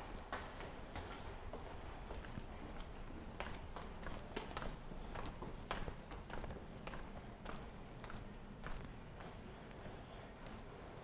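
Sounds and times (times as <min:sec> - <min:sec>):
faint background noise: 0:00.0 - 0:11.0
footsteps going down stairs: 0:00.0 - 0:11.0.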